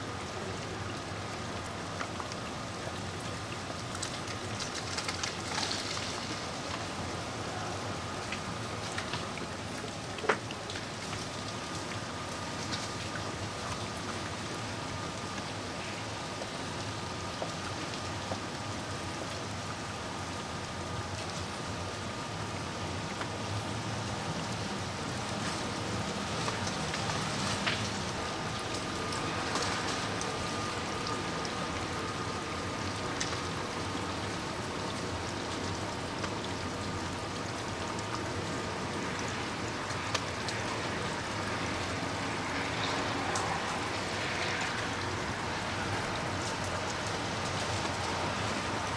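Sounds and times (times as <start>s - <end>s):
freezing rain falling: 0.0s - 48.9s
ice drops ticking: 0.3s - 23.4s, 24.1s - 42.0s.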